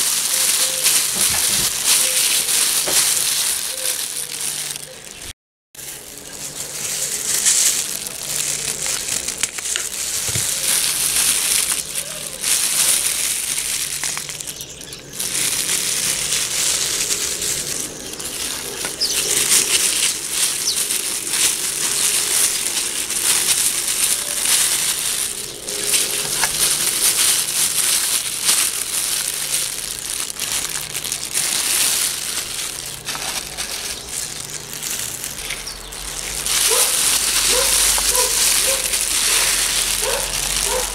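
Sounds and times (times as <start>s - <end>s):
plastic gloves and bag crinkling: 0.0s - 40.9s.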